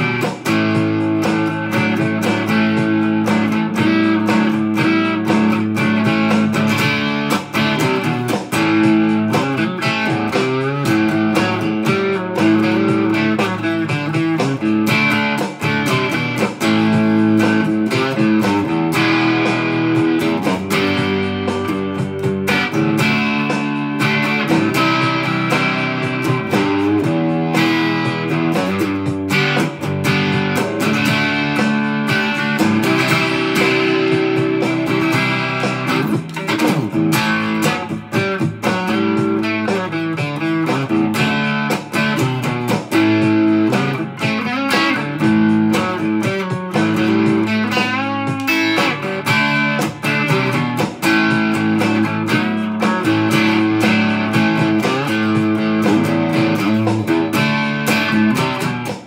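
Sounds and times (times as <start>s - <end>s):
rock electric guitar: 0.0s - 59.0s.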